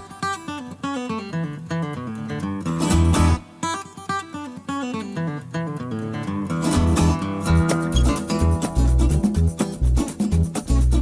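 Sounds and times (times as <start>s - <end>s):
strummed guitar music with beat: 0.0s - 11.0s.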